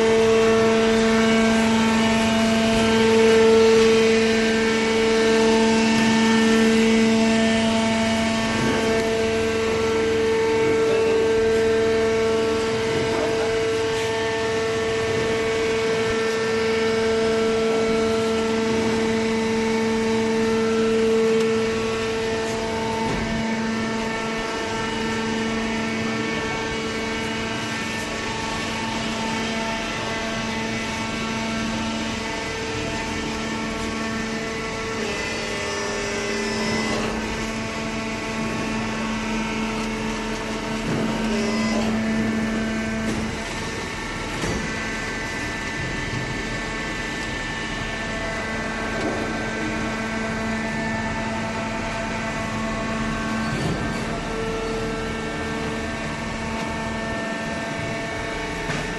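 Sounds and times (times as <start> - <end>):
baler machine humming: 0.0 - 58.9.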